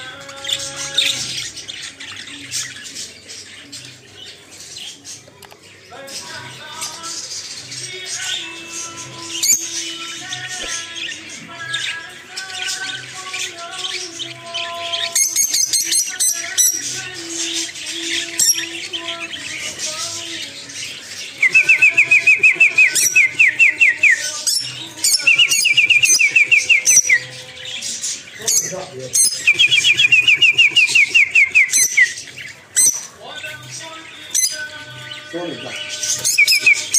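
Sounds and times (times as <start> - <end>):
lovebirds chirping: 0.0 - 36.9.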